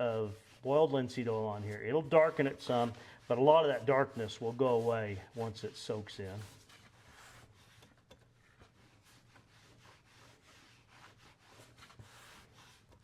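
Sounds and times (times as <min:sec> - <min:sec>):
cloth rubbing oil onto leather: 0:00.0 - 0:13.0.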